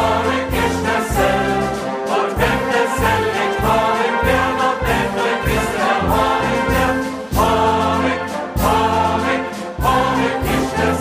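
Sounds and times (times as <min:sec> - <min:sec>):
band music with steady beat: 0:00.0 - 0:11.0
group singing: 0:00.0 - 0:11.0.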